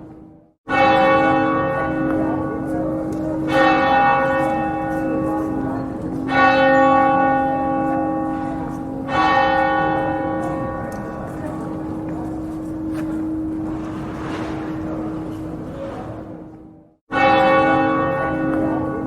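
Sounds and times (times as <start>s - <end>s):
church bell tolling: 0.0s - 19.0s.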